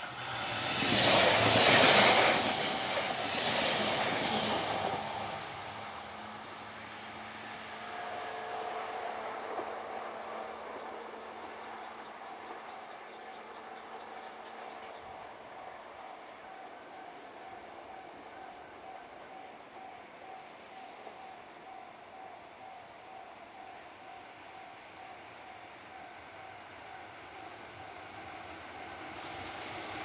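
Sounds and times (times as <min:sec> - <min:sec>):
insect high trill: 0:00.0 - 0:30.0
train rumbling past: 0:00.0 - 0:30.0.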